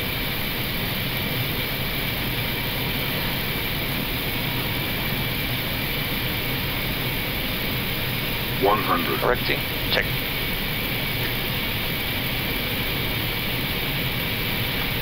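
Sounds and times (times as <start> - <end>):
cockpit airflow and engine noise: 0.0 - 15.0.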